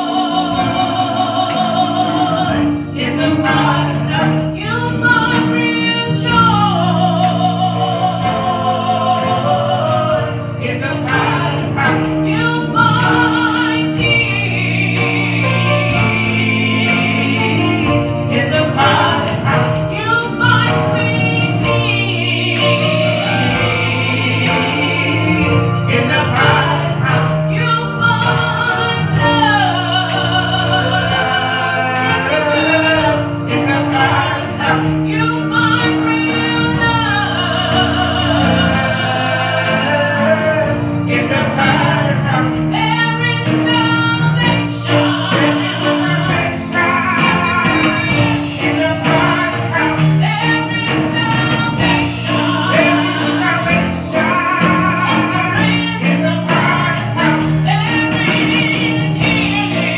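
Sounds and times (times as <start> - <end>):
instrumental accompaniment: 0.0 - 59.9
women singing gospel song: 0.0 - 59.9.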